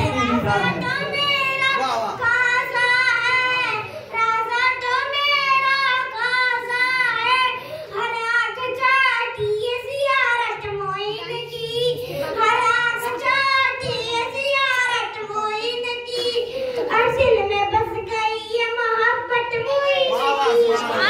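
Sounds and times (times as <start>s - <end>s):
boy singing into a microphone: 2.3s - 21.0s.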